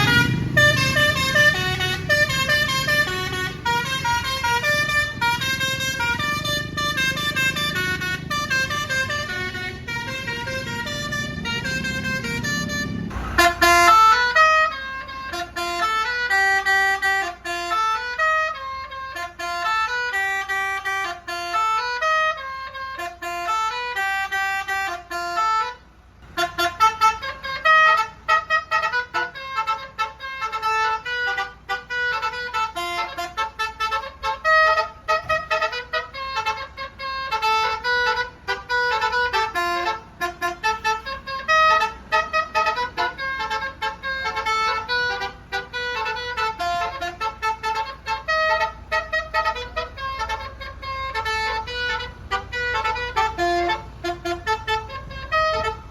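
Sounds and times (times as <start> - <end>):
low engine rumble: 0.0 - 55.9
musical bus horn tune: 0.0 - 55.9.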